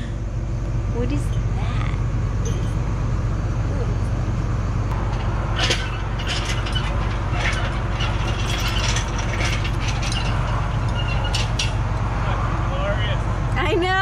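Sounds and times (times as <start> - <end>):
excavator diesel engine idling: 0.0 - 14.0.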